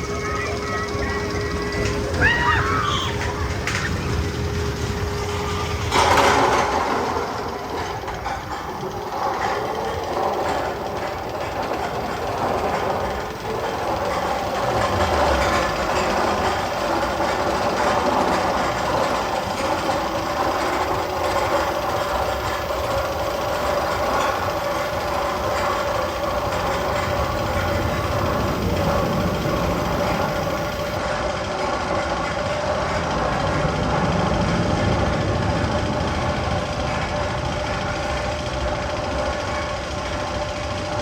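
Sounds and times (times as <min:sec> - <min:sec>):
clickety-clack of train wheels: 0:00.0 - 0:41.0
train rolling rumble: 0:00.0 - 0:41.0.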